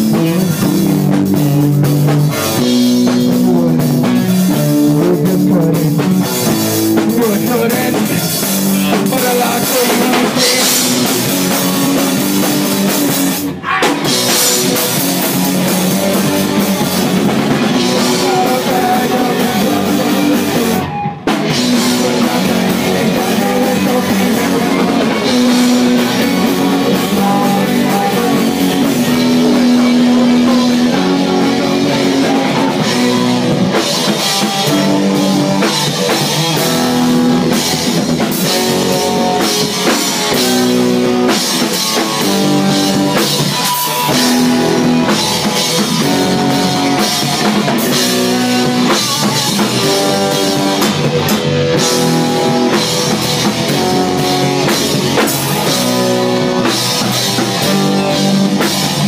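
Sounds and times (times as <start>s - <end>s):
drums: 0.0s - 59.0s
electric bass: 0.0s - 59.0s
electric guitar: 0.0s - 59.0s.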